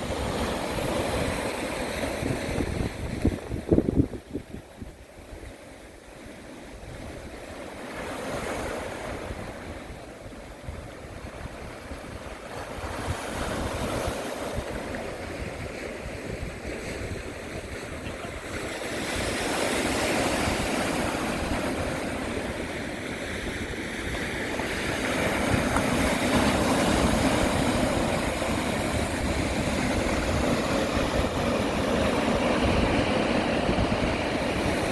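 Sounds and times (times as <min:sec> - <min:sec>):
sea waves washing in: 0:00.0 - 0:34.9
wind buffeting microphone: 0:00.0 - 0:34.9.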